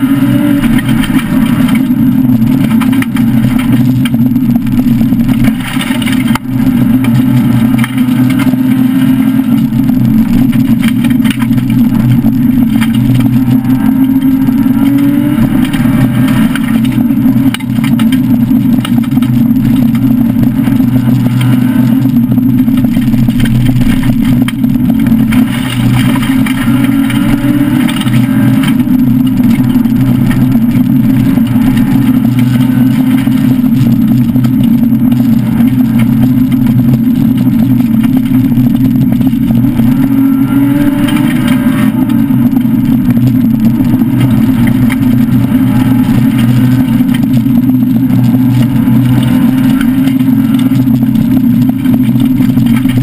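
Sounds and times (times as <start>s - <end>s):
car engine running hard: 0.0s - 53.0s
road and tyre noise: 0.0s - 53.0s.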